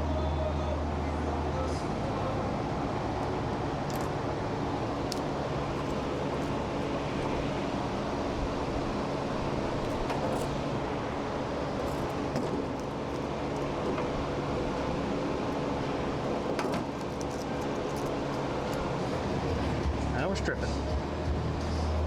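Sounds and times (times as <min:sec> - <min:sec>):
rushing hum of fan: 0:00.0 - 0:22.0.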